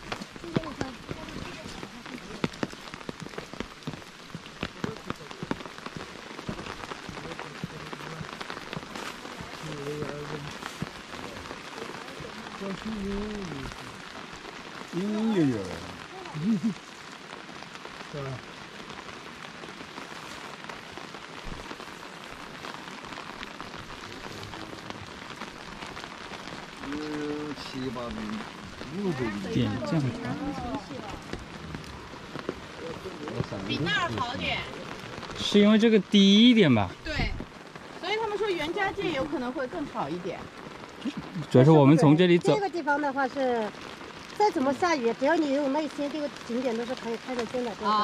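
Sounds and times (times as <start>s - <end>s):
rain hissing: 0.0s - 48.0s
raindrops tapping umbrella: 0.0s - 48.0s.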